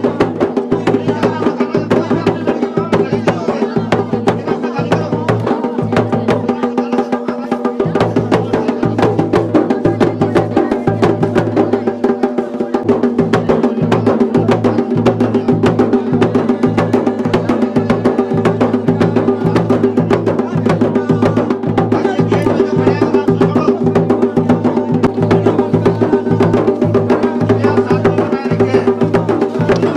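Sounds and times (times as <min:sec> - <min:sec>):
rapid drumming: 0:00.0 - 0:29.9.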